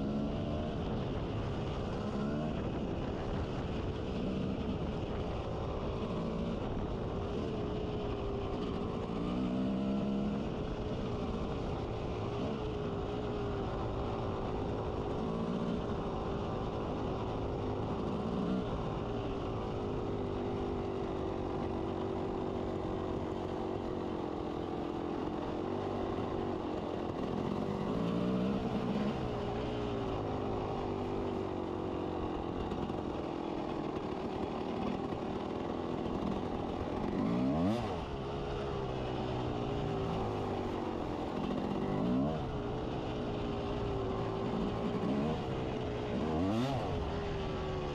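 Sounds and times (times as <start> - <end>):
two-stroke motorcycle engine running: 0.0 - 47.9.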